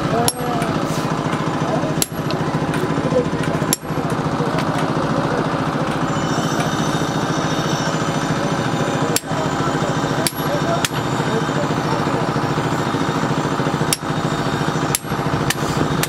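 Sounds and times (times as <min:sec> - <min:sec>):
machine pulsing steadily: 0:00.0 - 0:16.0.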